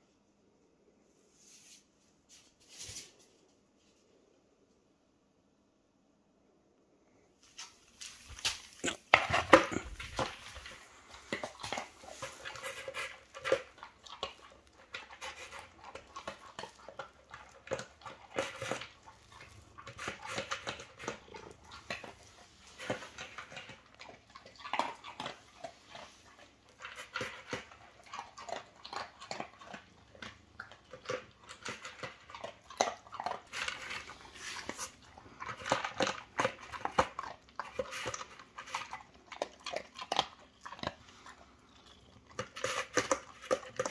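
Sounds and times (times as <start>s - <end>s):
dog crunching kibble: 7.6s - 43.9s.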